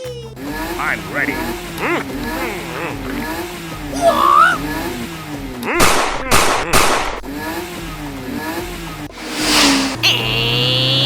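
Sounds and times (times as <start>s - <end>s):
vehicle engine wavering: 0.2s - 5.8s, 7.2s - 11.0s.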